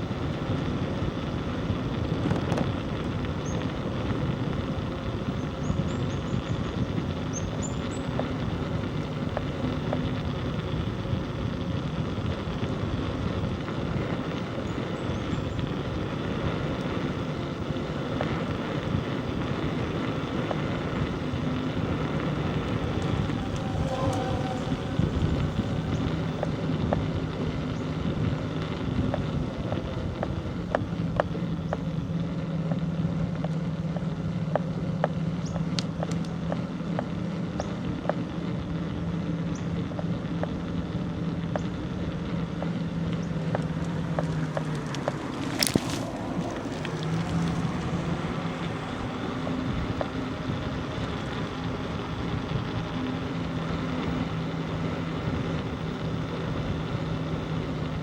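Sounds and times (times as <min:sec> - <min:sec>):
bicycle riding hum: 0:00.0 - 0:58.0
bicycle ticking: 0:00.0 - 0:58.0.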